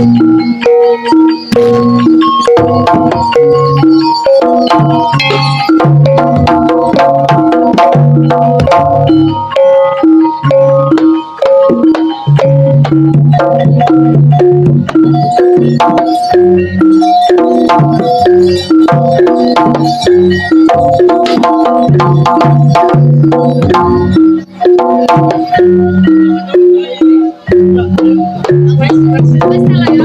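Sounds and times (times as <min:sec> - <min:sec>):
gamelan ensemble playing: 0:00.0 - 0:30.0.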